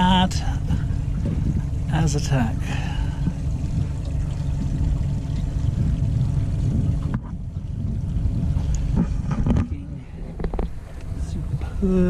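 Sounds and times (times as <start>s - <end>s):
outboard motor rumble: 0.0s - 12.0s
water washing along hull: 0.0s - 12.0s.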